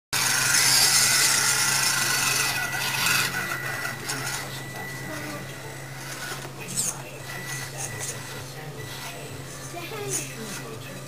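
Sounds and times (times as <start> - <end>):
toy car motor whirring: 0.2 - 11.0.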